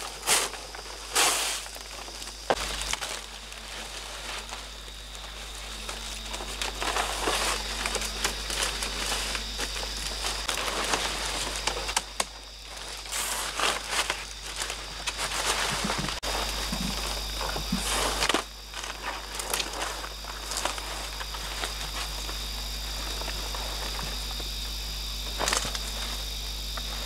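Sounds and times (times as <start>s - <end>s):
palm fronds rustling and swishing: 0.0s - 27.0s.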